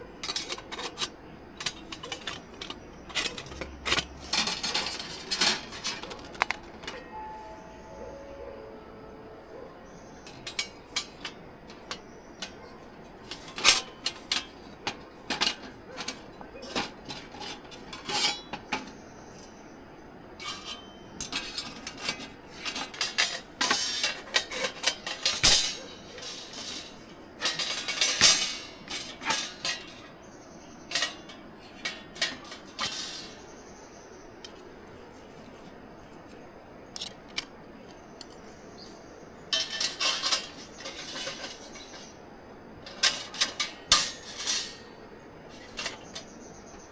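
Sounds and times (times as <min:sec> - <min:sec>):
camp gear clinking and clattering: 0:00.0 - 0:46.9.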